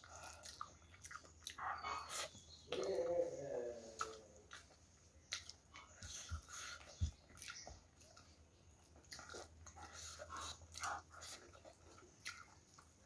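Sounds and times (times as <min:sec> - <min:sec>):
person chewing with lip-smacking: 0:00.0 - 0:03.1, 0:03.8 - 0:13.0.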